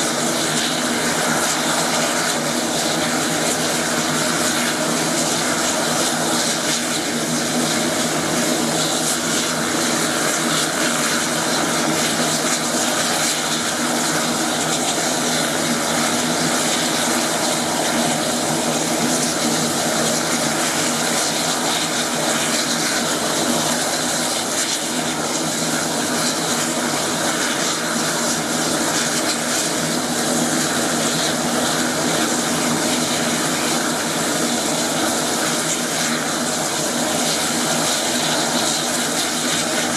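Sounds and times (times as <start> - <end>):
plane propeller engine drone: 0.0 - 39.9.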